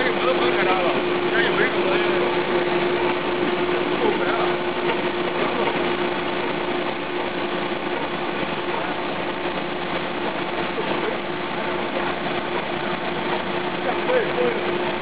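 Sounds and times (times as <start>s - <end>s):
extruder machine whirring and humming: 0.0s - 15.0s.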